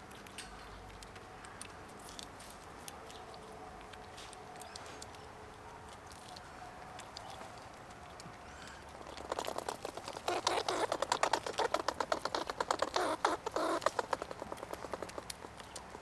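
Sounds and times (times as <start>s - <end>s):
squirrel gnawing corn: 0.0s - 16.0s.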